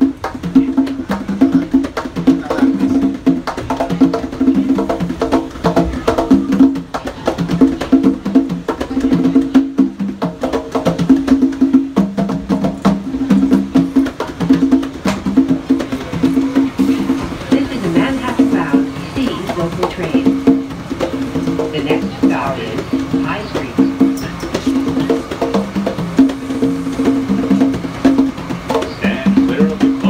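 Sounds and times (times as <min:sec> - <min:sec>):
hand drum slaps and open tones: 0:00.0 - 0:17.6, 0:18.4 - 0:30.0.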